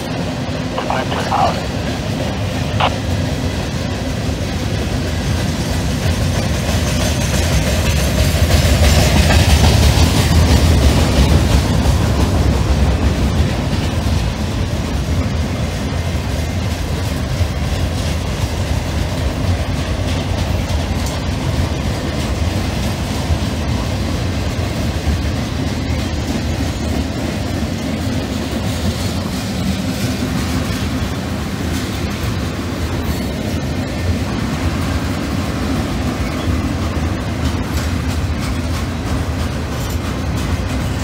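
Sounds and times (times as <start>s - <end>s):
freight train rumbling: 0.0s - 41.0s
wheels clicking on rails: 4.0s - 41.0s.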